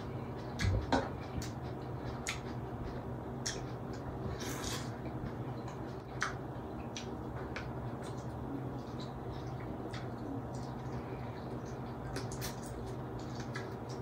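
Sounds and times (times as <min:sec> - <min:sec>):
steady low hum: 0:00.0 - 0:14.0
person chewing with wet smacks: 0:00.4 - 0:14.0.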